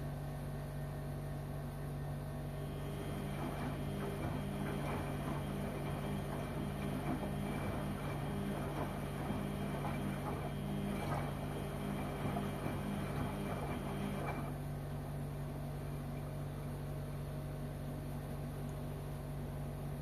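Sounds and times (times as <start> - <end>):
washing machine motor hum: 0.0 - 20.0
washing machine rough churning noise: 0.0 - 20.0.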